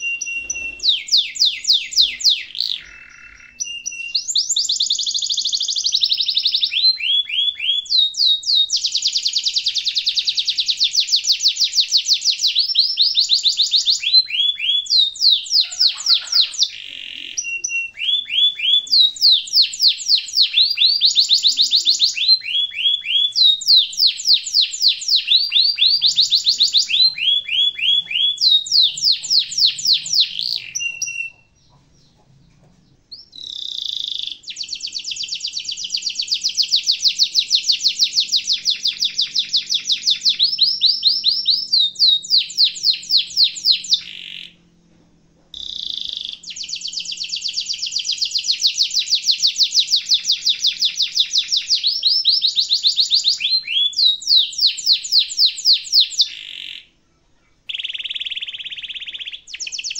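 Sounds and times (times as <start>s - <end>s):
canary singing rolling trills: 0.0s - 59.9s.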